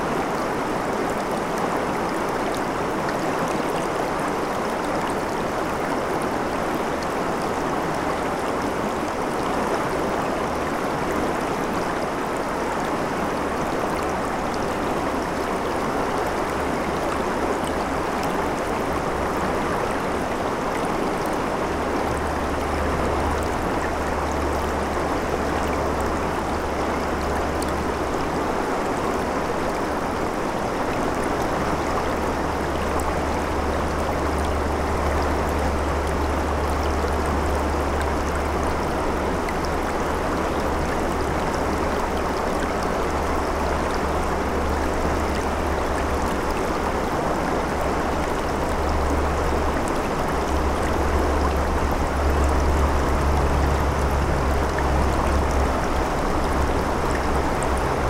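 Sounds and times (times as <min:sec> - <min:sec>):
river rushing over stones: 0:00.0 - 0:58.0.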